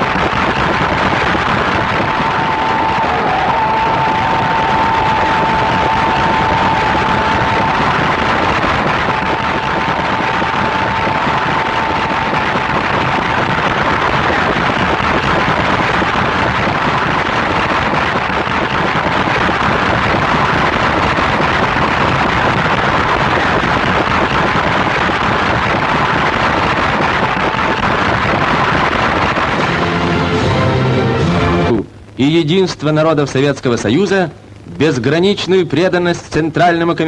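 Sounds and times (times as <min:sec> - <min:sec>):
huge crowd cheering: 0:00.0 - 0:31.8.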